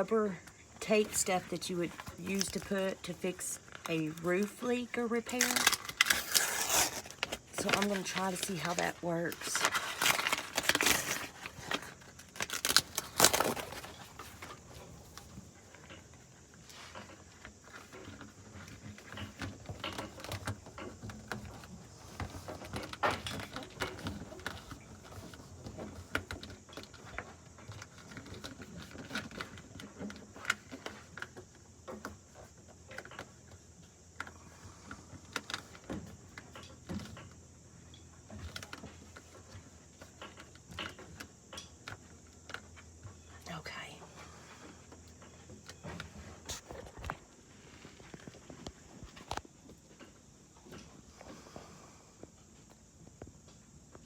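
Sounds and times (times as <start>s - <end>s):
tape rustling and crinkling: 0.0s - 37.4s, 38.1s - 51.6s.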